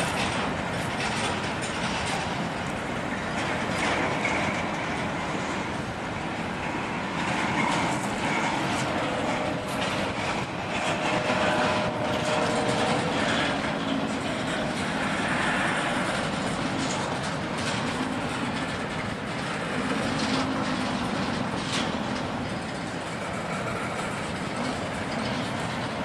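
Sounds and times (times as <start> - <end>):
freight train rumbling: 0.0 - 26.0
wheel clatter over rail joints: 0.0 - 26.0.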